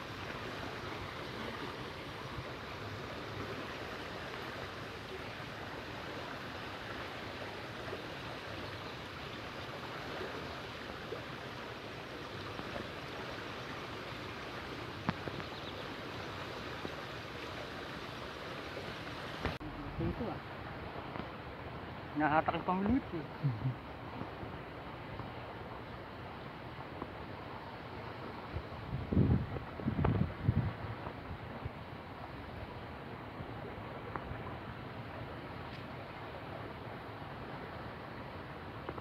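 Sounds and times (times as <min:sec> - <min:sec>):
river water flowing: 0:00.0 - 0:39.0.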